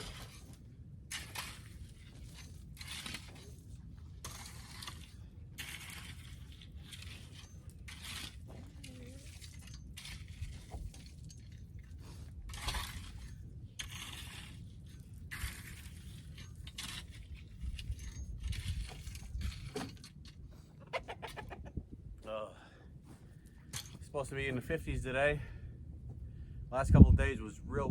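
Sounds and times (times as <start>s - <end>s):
gravel crunching and scraping: 0.0s - 27.9s.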